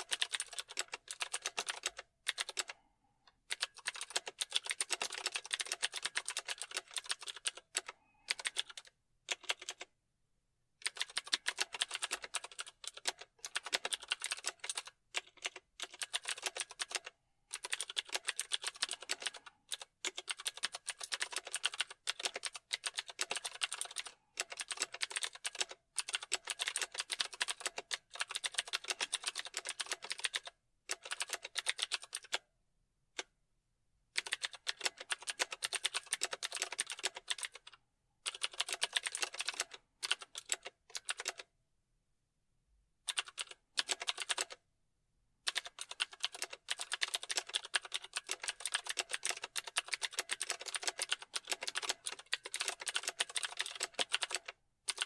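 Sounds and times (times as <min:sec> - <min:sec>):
computer keyboard typing: 0:00.0 - 0:02.8, 0:03.4 - 0:09.9, 0:10.8 - 0:32.4, 0:34.2 - 0:41.5, 0:43.1 - 0:44.6, 0:45.4 - 0:55.0.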